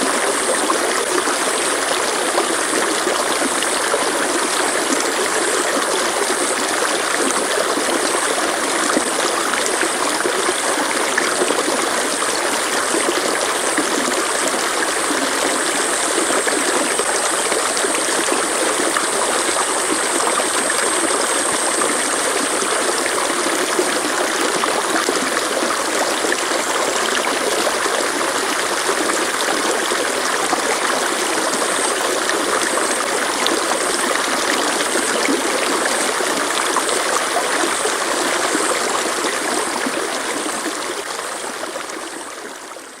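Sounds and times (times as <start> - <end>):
stream water flowing: 0.0 - 43.0.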